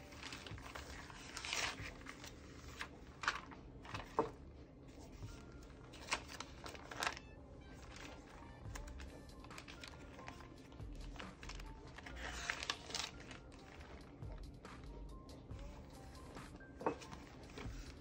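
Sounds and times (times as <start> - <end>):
paper rustling: 0.0 - 14.2, 16.4 - 18.0.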